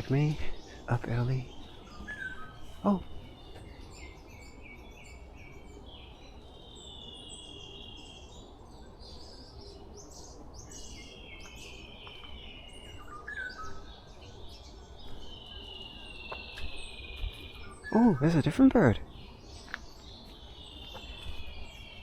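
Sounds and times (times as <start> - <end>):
birds singing trills and chirps: 0.0 - 22.0
low background hiss: 0.0 - 22.0.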